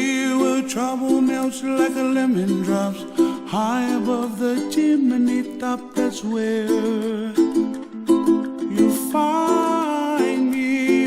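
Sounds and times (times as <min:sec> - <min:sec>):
person singing: 0:00.0 - 0:11.0
plucked strings: 0:00.0 - 0:11.0.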